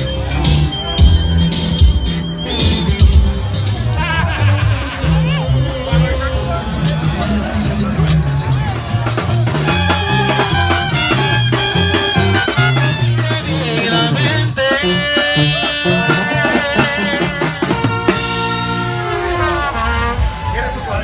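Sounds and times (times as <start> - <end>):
upbeat latin dance music: 0.0 - 19.0.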